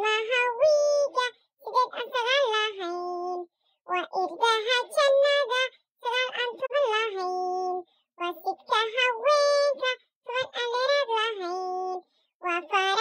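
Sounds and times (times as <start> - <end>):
child-like voice singing: 0.0 - 13.0.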